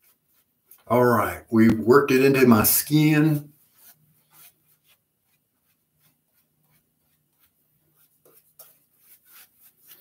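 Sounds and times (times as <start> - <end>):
shaving brush strokes on face: 0.0 - 10.0.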